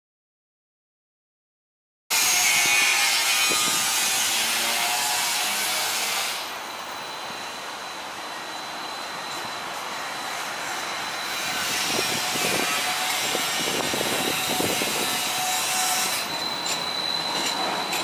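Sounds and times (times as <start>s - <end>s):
streetcar wheels grinding on rail: 3.5s - 18.0s.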